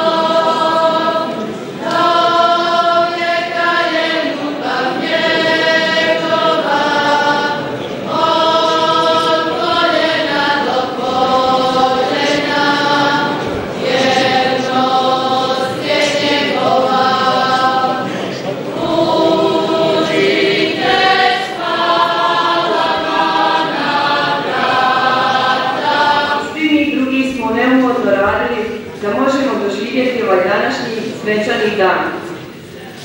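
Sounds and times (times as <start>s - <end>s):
church choir singing a hymn: 0.0s - 33.0s.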